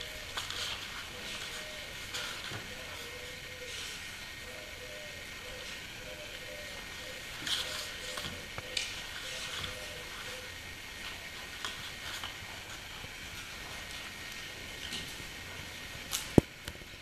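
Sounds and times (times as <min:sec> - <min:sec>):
faint high whine: 0:00.0 - 0:13.9
steady hiss: 0:00.0 - 0:17.0.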